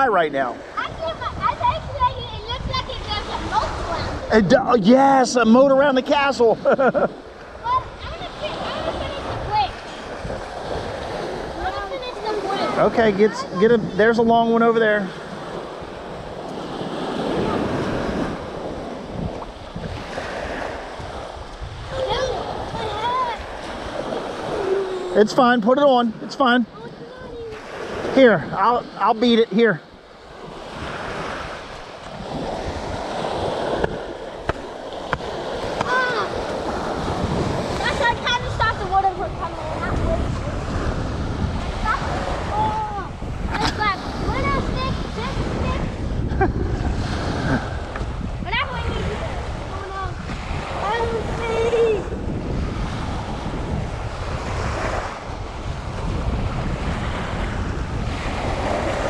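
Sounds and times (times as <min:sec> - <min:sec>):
small waves washing on beach: 0:00.0 - 0:59.0
wind on microphone: 0:00.0 - 0:59.0.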